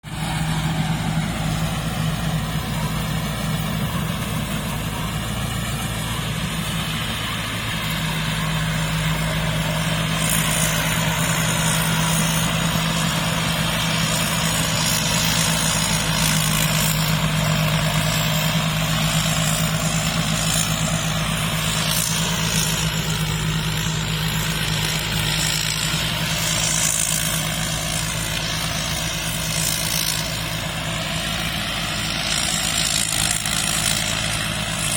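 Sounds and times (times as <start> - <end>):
diesel engine humming: 0.0 - 34.9
hiss and rattle: 0.1 - 34.9.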